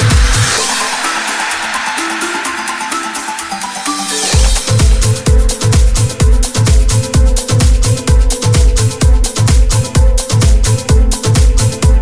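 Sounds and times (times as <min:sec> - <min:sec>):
kick drum pounding: 0:00.0 - 0:02.6, 0:04.2 - 0:12.0.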